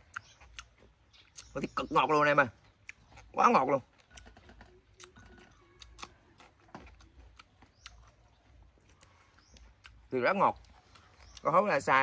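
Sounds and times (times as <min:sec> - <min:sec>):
person chewing crunchy food: 0:00.0 - 0:01.7, 0:02.6 - 0:11.9.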